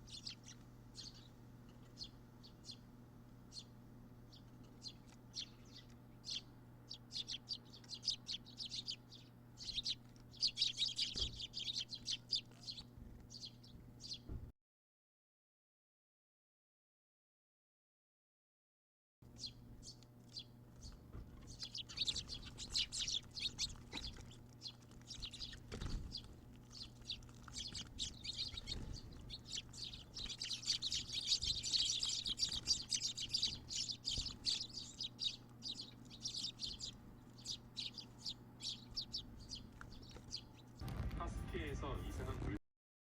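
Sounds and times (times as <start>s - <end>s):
birds chirping: 0.0s - 14.4s, 19.3s - 42.6s.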